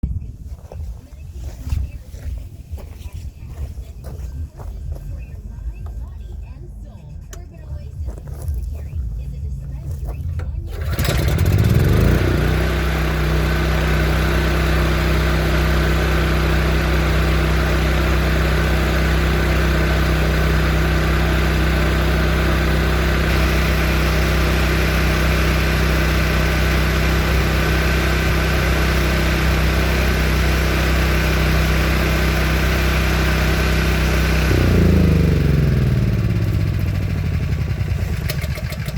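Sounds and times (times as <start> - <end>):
generator engine running: 0.1 - 38.9.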